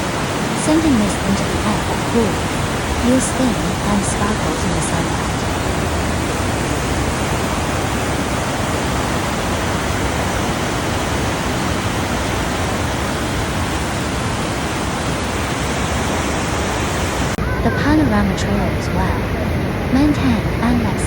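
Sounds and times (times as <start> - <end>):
large waterfall rushing: 0.0 - 21.0.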